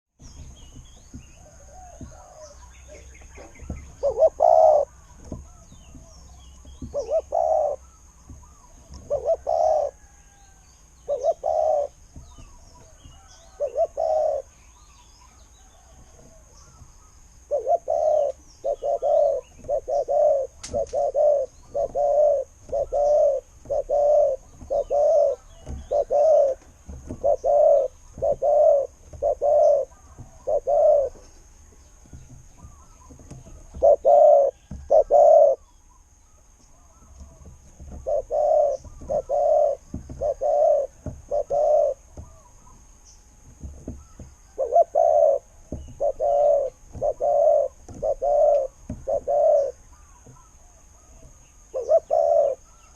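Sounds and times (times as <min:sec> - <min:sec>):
dove cooing: 0:01.0 - 0:14.6, 0:15.6 - 0:31.4, 0:32.0 - 0:35.8, 0:36.7 - 0:43.0, 0:43.9 - 0:52.9.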